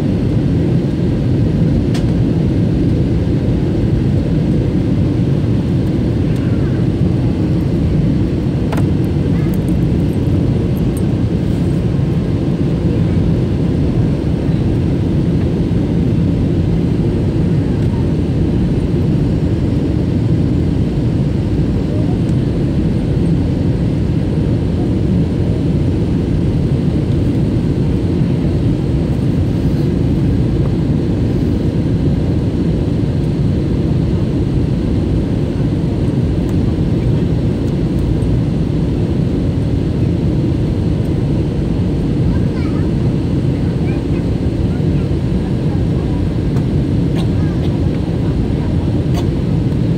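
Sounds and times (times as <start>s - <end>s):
jet engine cabin rumble: 0.0s - 49.9s.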